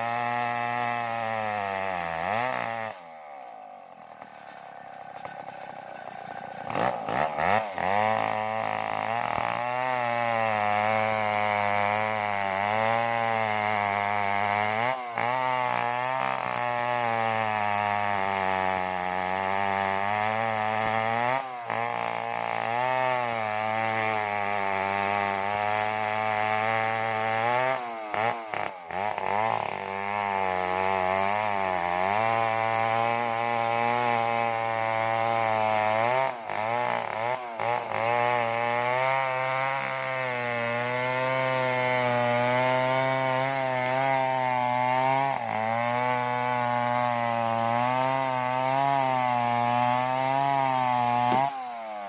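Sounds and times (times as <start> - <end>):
chainsaw cutting through log: 0.0 - 52.0.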